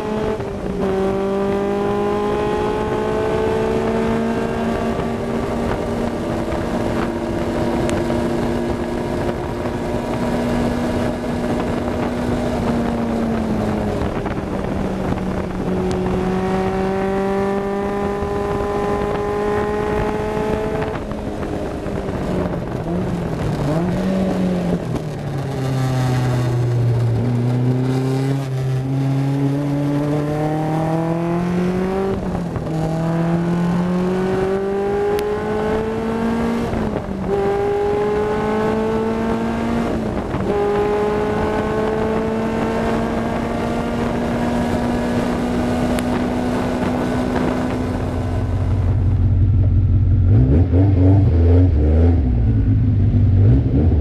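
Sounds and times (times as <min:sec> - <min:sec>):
race car engine accelerating: 0:00.0 - 0:09.3, 0:15.0 - 0:21.0, 0:21.7 - 0:54.0
wind noise over car: 0:00.0 - 0:54.0.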